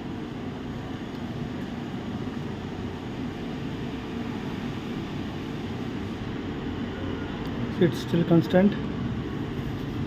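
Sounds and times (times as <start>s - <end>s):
air conditioning hum and hiss: 0.0s - 10.0s.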